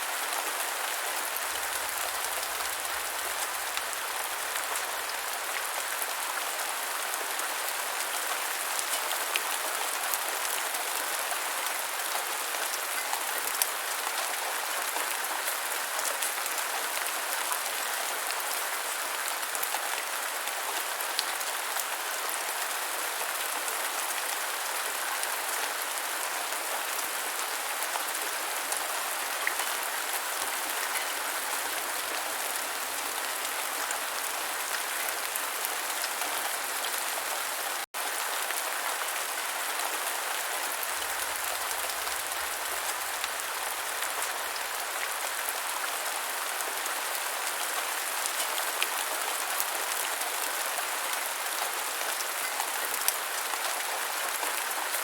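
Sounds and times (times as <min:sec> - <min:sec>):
rain falling on ground: 0:00.0 - 0:55.0.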